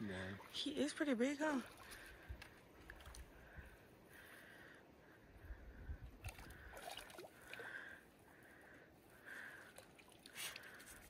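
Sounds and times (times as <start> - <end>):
water splashing and sloshing: 0.0 - 4.7, 6.0 - 11.0.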